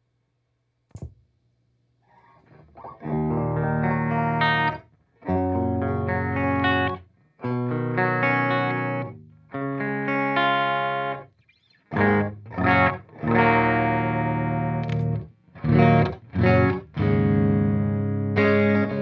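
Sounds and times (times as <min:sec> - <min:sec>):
phased electric guitar chords: 0:02.8 - 0:19.0.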